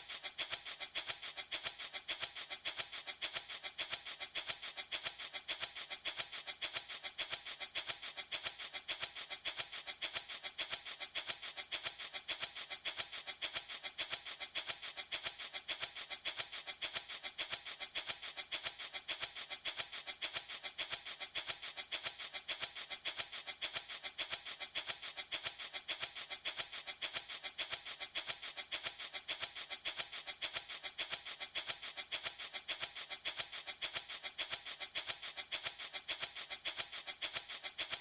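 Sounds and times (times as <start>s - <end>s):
baby rattle shaking: 0.0s - 38.0s.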